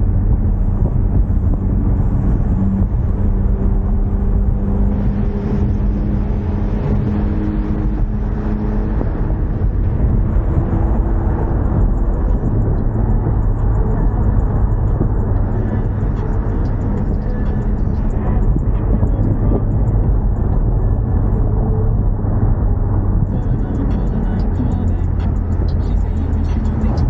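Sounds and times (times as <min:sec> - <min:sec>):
car engine drone: 0:00.0 - 0:27.0
low road rumble: 0:00.0 - 0:27.0.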